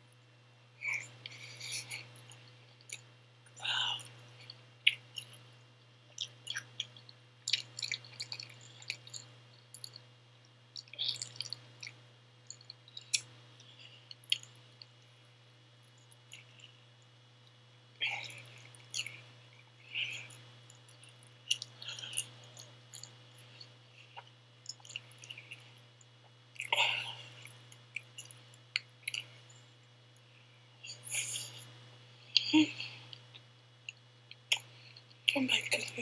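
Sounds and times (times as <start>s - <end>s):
person chewing and smacking: 1.0s - 15.2s, 15.8s - 29.4s, 33.1s - 35.3s.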